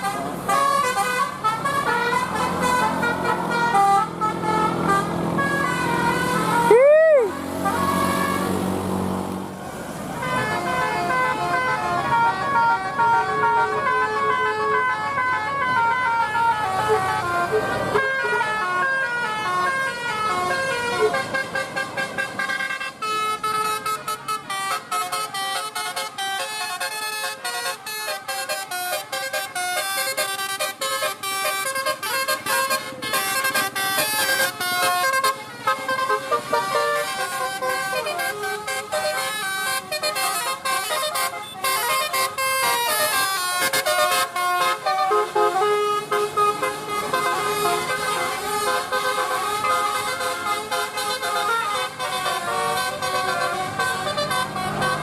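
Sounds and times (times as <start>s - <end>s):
melody air horn: 0.0s - 9.2s, 10.1s - 55.0s
bus engine rumbling: 0.0s - 55.0s.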